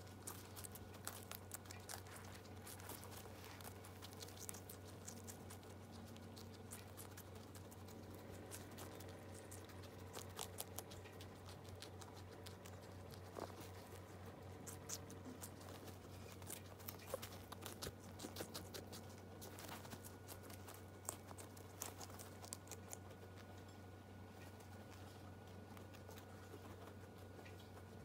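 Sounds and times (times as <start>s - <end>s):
guinea pigs chewing: 0.0s - 28.0s
steady low hum: 0.0s - 28.0s.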